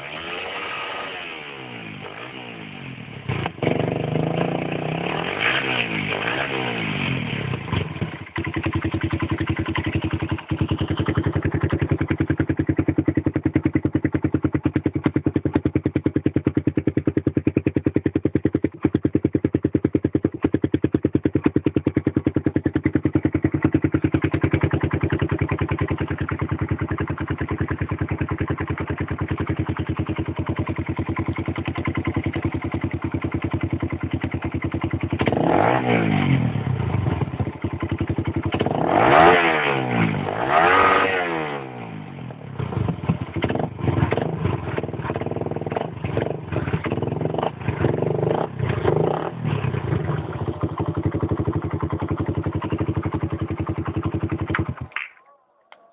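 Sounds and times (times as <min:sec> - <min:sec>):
motorcycle engine revving: 0:00.0 - 0:55.2.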